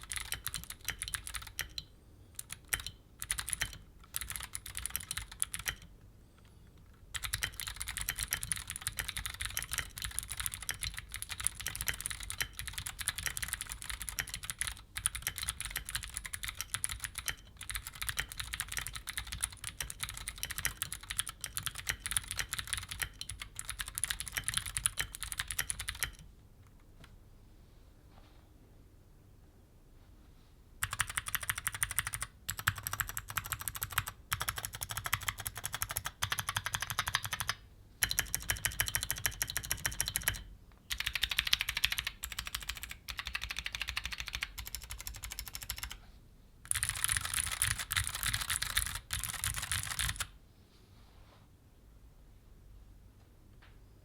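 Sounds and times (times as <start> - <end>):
typing on clicky mechanical keyboard: 0.0 - 26.3, 30.8 - 46.0, 46.7 - 50.3.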